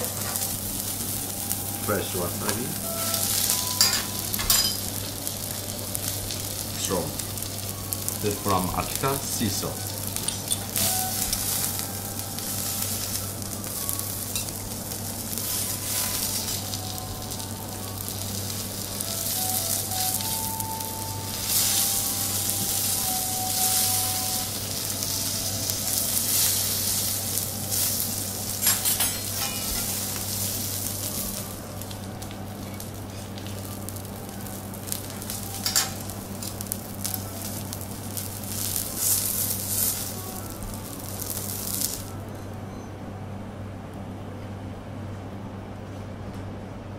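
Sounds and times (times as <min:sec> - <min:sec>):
steak sizzling on griddle: 0:00.0 - 0:42.3
low steady hum: 0:00.0 - 0:46.9.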